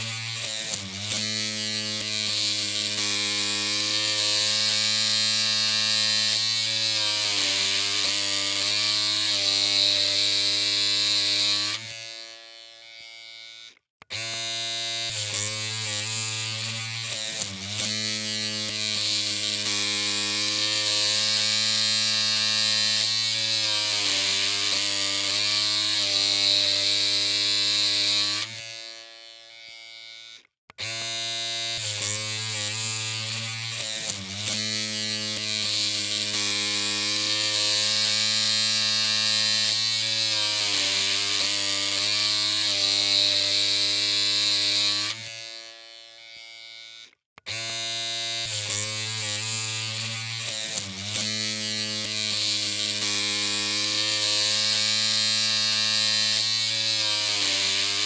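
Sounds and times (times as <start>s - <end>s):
electric hair clippers buzzing: 0.0s - 58.0s.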